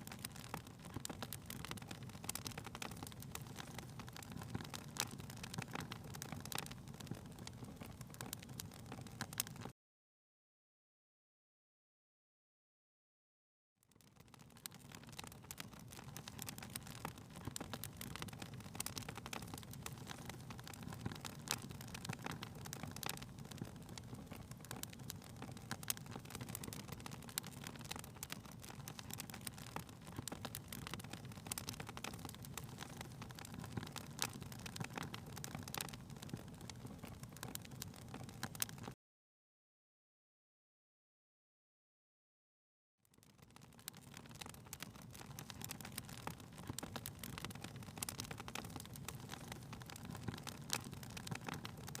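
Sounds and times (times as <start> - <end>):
fire popping and crackling: 0.0 - 9.7, 13.9 - 39.0, 43.1 - 52.0
low rumble of flame: 0.0 - 9.7, 14.0 - 39.0, 43.2 - 52.0.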